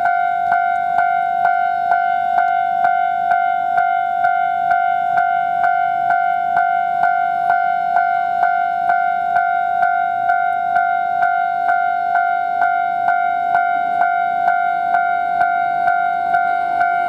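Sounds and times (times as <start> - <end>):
level crossing alarm clanging: 0.0 - 17.0.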